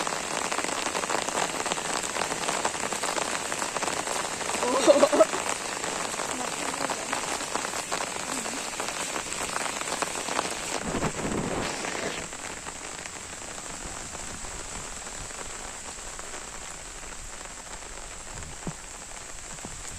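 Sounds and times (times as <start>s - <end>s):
raindrops ticking: 0.0s - 11.2s, 12.3s - 19.9s
steady rain: 0.0s - 19.9s.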